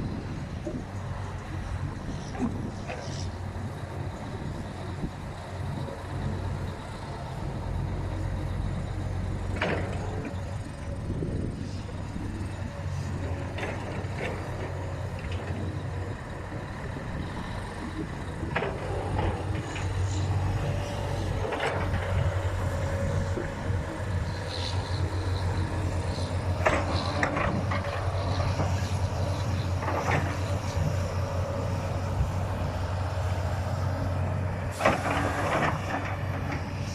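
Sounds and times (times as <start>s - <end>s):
diesel earthmoving machinery running: 0.0s - 36.9s.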